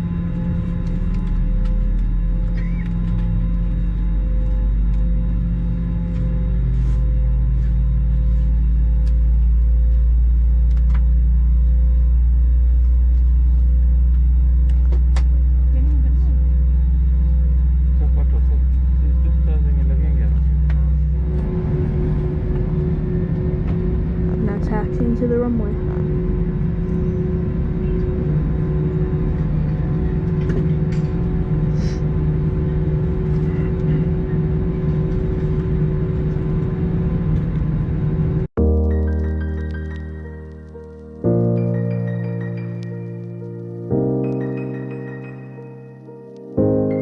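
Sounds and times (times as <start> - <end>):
engine and airflow hum: 0.0 - 40.6
aircraft cabin rumble: 0.0 - 45.4.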